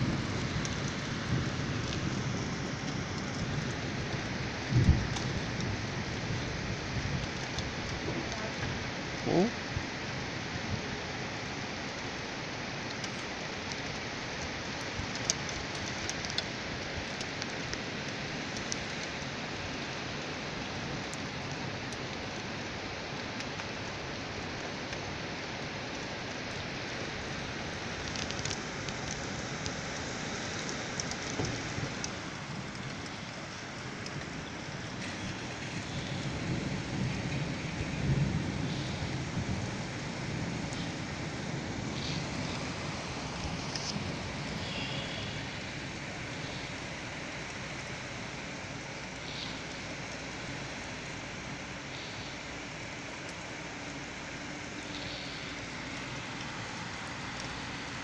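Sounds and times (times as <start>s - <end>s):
heavy rain on wet street: 0.0s - 58.0s.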